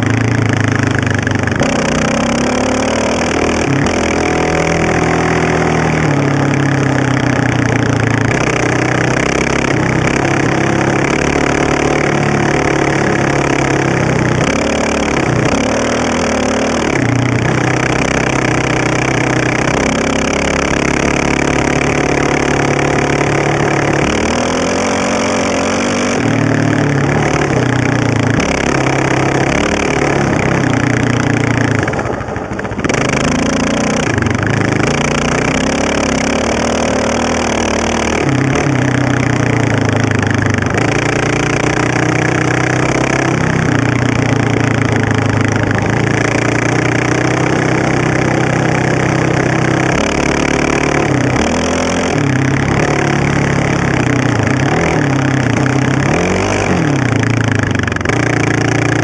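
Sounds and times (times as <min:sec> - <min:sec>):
atv engine running hard: 0:00.0 - 0:59.0.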